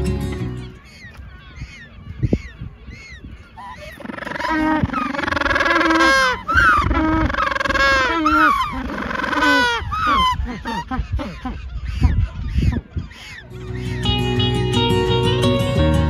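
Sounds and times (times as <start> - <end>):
penguins calling: 0.5 - 14.8.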